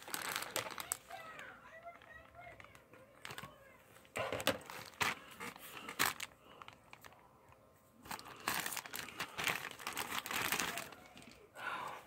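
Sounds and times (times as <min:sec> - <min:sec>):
plastic bag crinkling: 0:00.0 - 0:07.3, 0:08.0 - 0:11.5.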